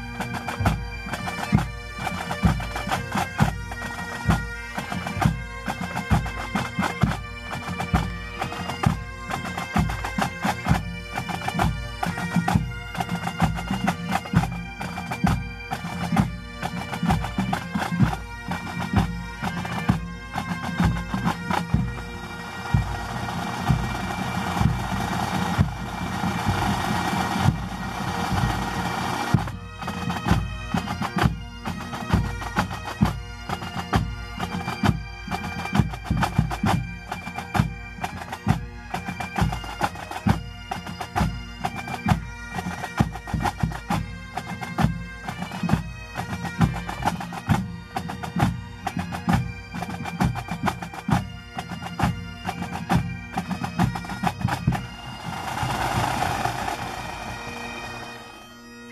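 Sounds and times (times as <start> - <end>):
bagpipes playing a tune: 0.0 - 58.9
drums: 4.3 - 14.6, 15.2 - 36.9, 41.0 - 58.3.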